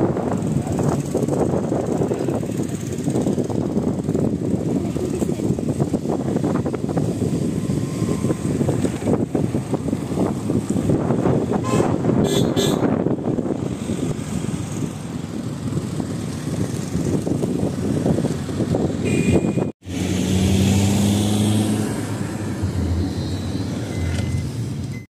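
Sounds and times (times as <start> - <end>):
car road and wind rumble: 0.0 - 25.0.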